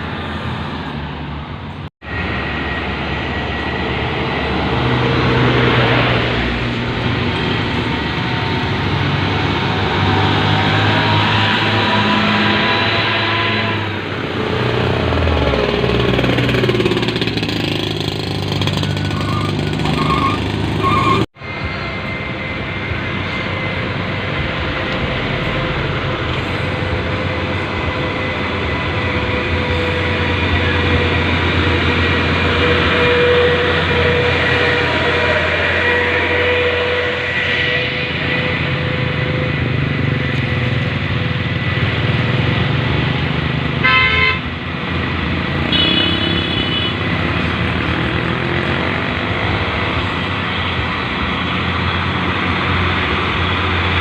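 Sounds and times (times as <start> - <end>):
diesel truck engines running: 0.0 - 43.8, 44.4 - 54.0.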